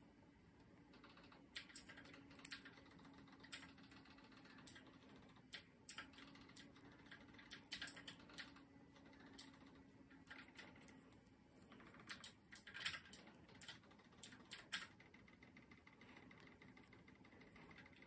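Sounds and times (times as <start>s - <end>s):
low steady hum: 0.0s - 18.0s
knitting needles clicking: 0.6s - 18.0s.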